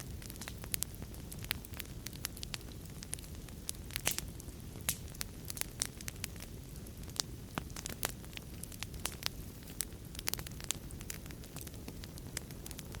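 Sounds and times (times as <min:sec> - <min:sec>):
wood fire crackling in fireplace: 0:00.0 - 0:13.0.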